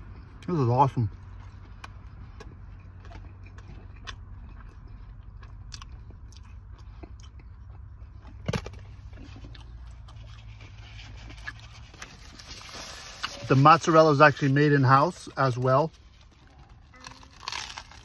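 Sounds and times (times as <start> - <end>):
low steady car hum: 0.0 - 18.0
person chewing pizza: 0.0 - 18.0
soft crunches and mouth clicks: 0.0 - 18.0.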